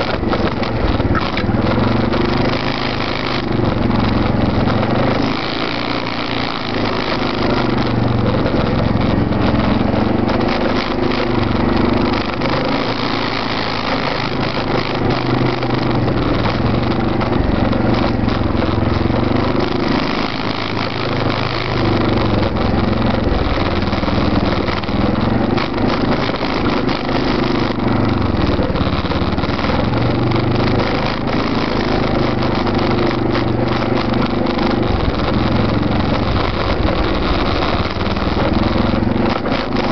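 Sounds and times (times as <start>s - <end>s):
atv engine running: 0.0s - 39.9s
second atv engine: 0.0s - 39.9s.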